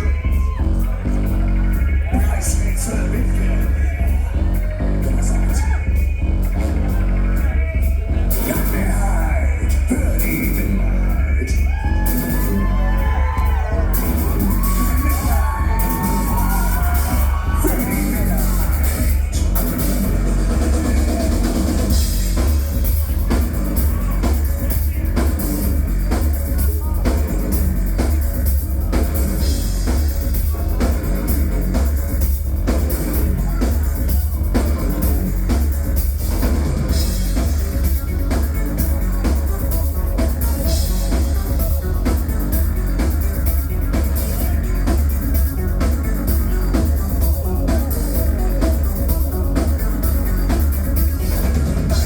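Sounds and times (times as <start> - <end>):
driving drum beat: 0.0 - 52.0
live rock band playing: 0.0 - 52.0.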